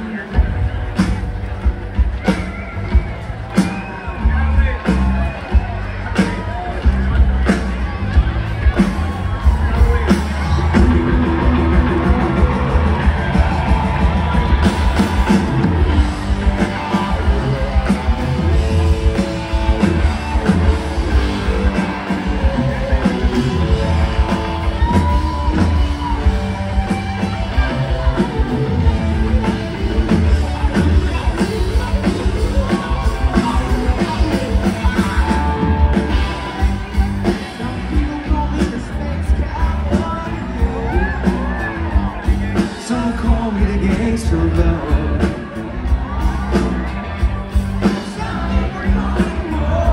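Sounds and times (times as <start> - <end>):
heavy drums: 0.0 - 49.9
live rock band playing: 0.0 - 49.9.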